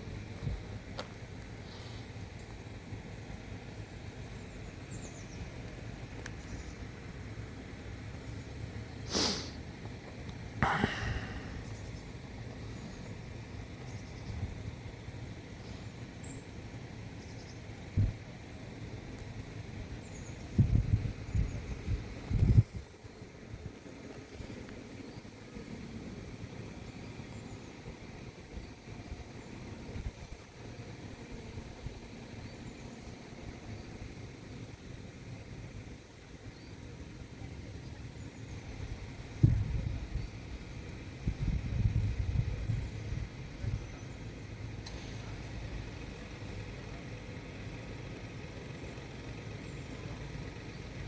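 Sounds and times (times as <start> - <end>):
road traffic rumble: 0.0 - 51.0
vehicles idling: 0.0 - 51.0.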